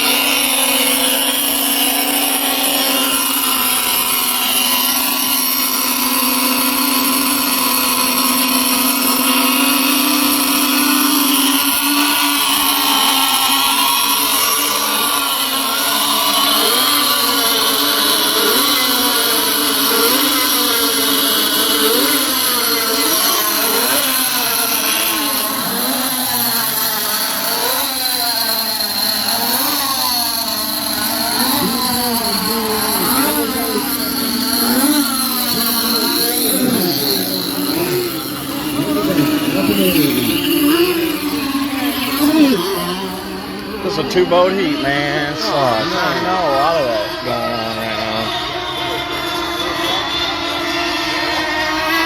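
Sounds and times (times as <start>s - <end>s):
rc boat engines whining: 0.0s - 52.0s.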